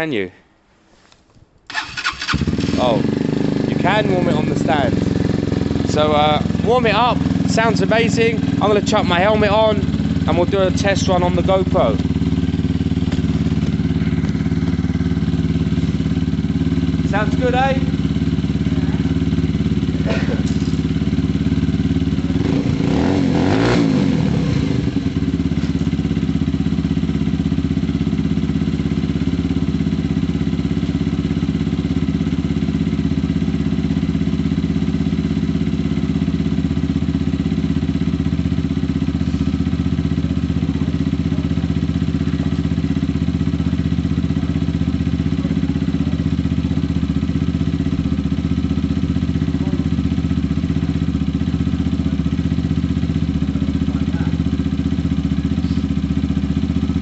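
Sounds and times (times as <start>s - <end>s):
motorcycle engine idling: 1.7s - 57.0s.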